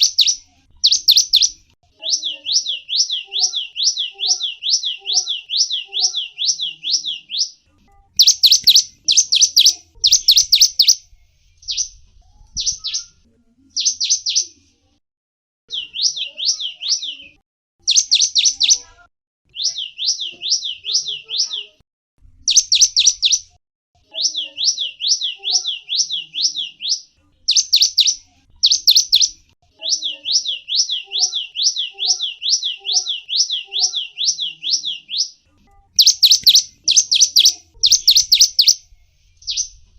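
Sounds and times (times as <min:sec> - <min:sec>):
songbird singing high whistled notes: 0:00.0 - 0:07.6, 0:08.2 - 0:12.0, 0:12.6 - 0:13.2, 0:15.7 - 0:18.8, 0:19.5 - 0:21.7, 0:22.4 - 0:23.5, 0:24.1 - 0:35.4, 0:36.0 - 0:39.8.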